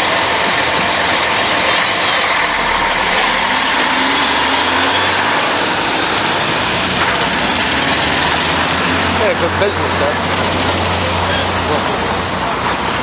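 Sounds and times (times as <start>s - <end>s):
street traffic rush: 0.0s - 13.0s.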